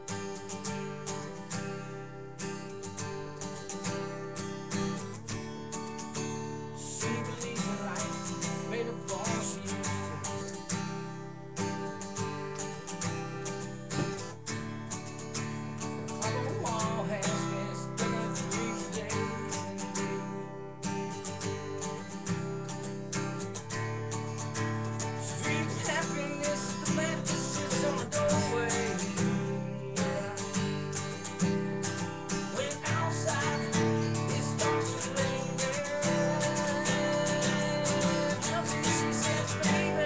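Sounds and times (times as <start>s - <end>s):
acoustic guitar strummed: 0.0s - 40.0s.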